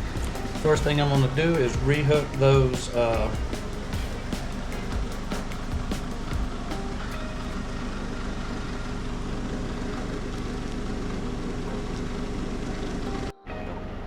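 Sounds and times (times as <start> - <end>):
steady mechanical hum: 0.0 - 13.3.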